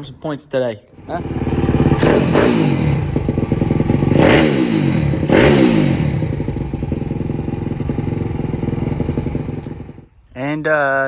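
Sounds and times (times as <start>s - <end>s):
motorbike engine revving and idling: 1.0s - 10.2s.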